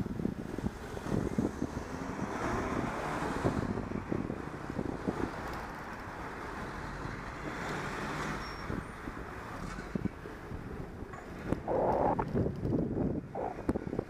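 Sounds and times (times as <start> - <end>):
wind buffeting microphone: 0.0 - 8.0, 8.6 - 14.0
road traffic noise: 0.0 - 14.0.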